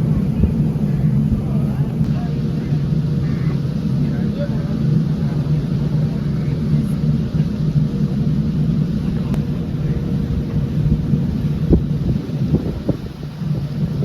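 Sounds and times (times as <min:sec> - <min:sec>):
boat engine droning: 0:00.0 - 0:14.0
faint steady hum: 0:00.0 - 0:14.0.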